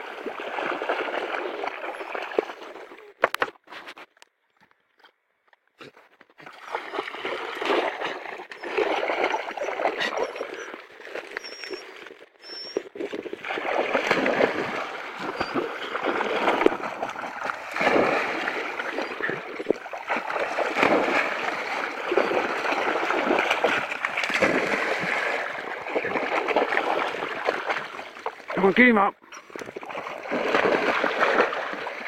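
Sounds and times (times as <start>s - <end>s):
dogs splashing in water: 0.0s - 3.4s, 6.4s - 32.0s.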